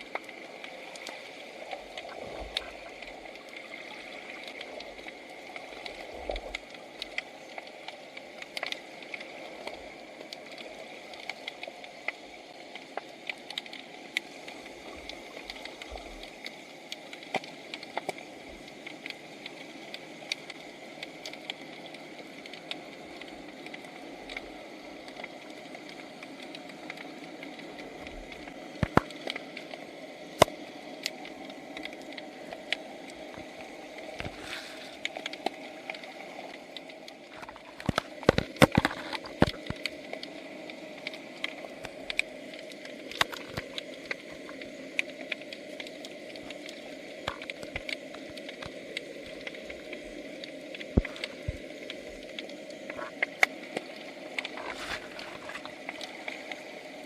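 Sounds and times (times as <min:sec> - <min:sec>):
sharp underwater clicks: 0:00.0 - 0:57.0
underwater water wash: 0:00.0 - 0:57.0.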